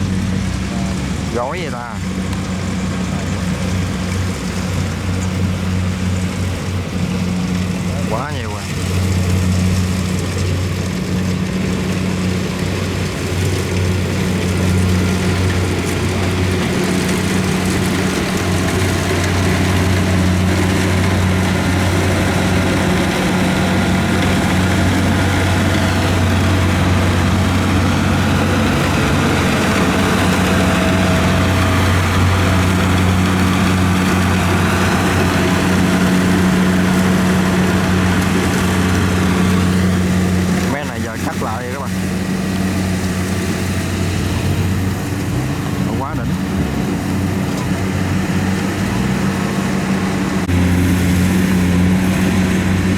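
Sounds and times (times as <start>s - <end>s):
combine harvester diesel engine: 0.0s - 52.9s.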